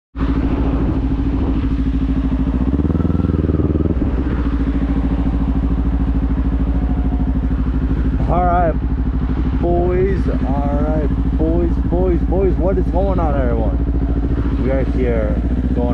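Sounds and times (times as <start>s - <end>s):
motorcycle engine running: 0.2s - 15.9s.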